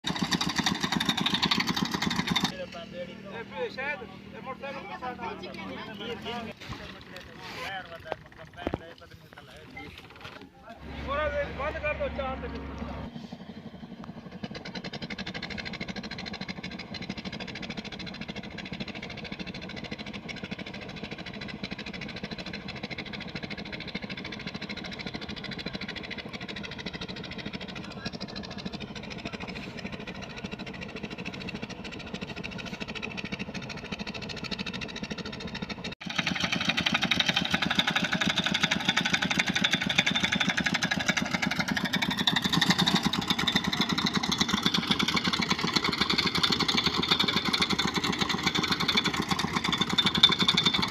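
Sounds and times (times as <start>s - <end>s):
combine harvester engine running: 0.0s - 50.9s.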